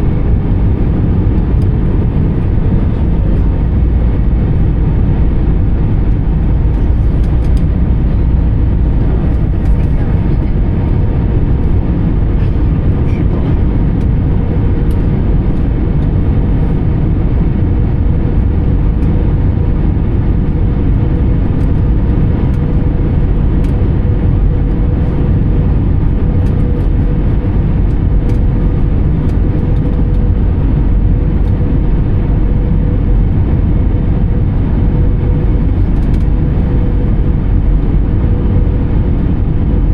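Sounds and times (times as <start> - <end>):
airplane cabin noise: 0.0 - 39.9
faint steady whine: 0.0 - 39.9.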